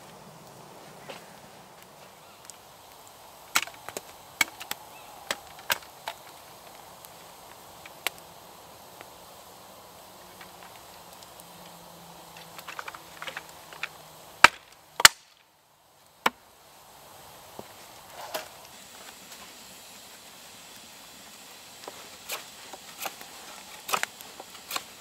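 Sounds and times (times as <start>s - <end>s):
campfire crackle: 0.0s - 25.0s.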